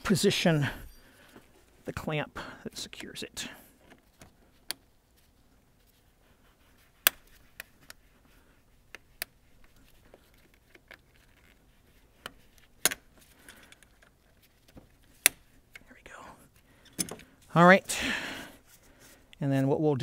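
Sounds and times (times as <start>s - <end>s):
quiet handling sounds: 0.0s - 17.9s, 18.5s - 19.7s.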